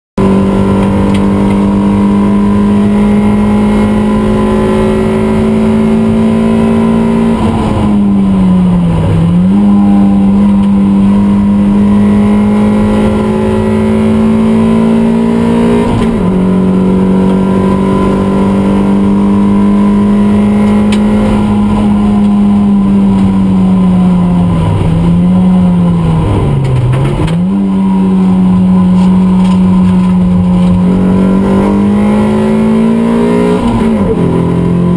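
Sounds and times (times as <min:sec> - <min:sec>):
race car engine at full throttle: 0:00.2 - 0:34.9.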